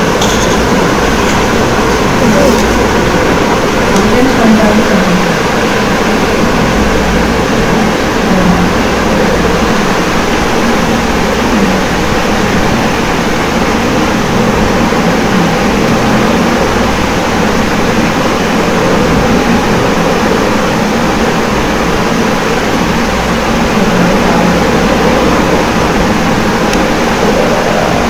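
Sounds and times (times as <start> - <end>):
faint low hum: 0.0 - 28.0
loud rushing noise: 0.0 - 28.0.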